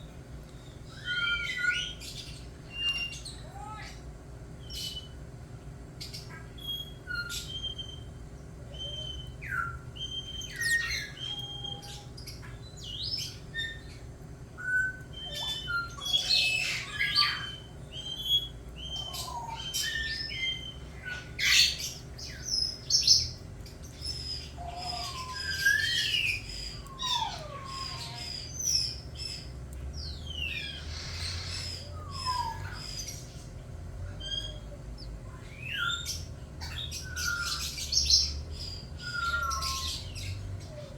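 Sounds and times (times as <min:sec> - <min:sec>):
birds chirping and calling: 0:00.5 - 0:05.3, 0:06.0 - 0:40.9.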